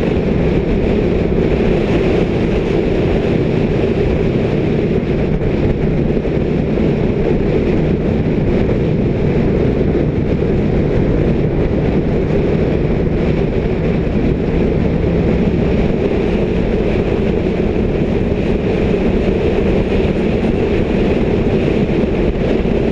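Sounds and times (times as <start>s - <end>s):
motorcycle engine running: 0.0s - 22.9s
wind rush on microphone: 0.0s - 22.9s.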